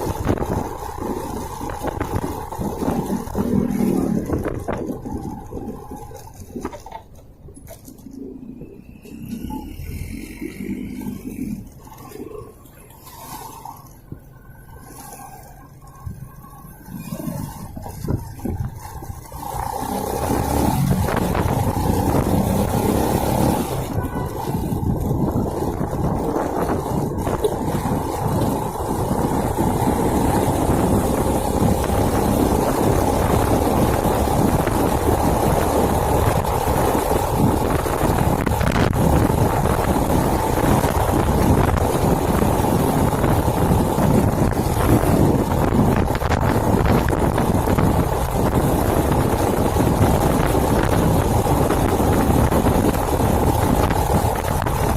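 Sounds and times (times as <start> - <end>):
motorcycle engine running: 0.0 - 12.7, 15.5 - 54.9
wind noise on microphone: 0.0 - 54.9.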